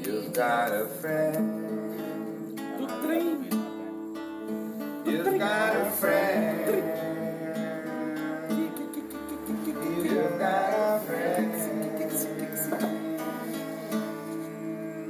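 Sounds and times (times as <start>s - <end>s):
person singing wordless notes: 0.0s - 3.9s, 5.0s - 15.0s
acoustic guitar strumming: 0.0s - 15.0s.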